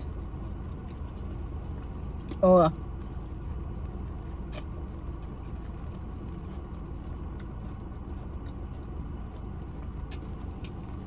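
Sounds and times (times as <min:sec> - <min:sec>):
person chewing food: 0:00.0 - 0:11.0
steady low rumble: 0:00.0 - 0:11.0.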